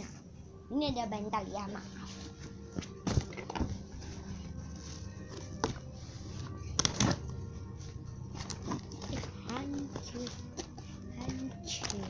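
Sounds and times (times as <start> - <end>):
faint background music: 0.0 - 12.0.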